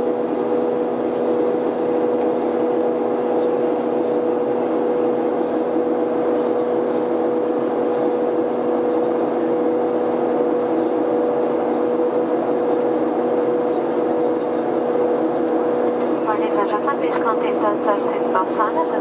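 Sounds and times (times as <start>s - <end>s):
jet engine drone in cabin: 0.0s - 19.0s.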